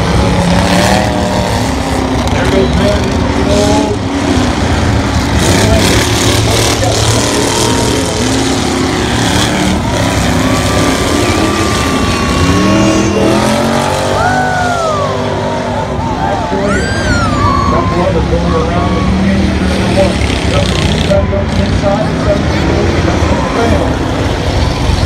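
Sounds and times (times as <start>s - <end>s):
loud car engines revving: 0.0s - 25.0s.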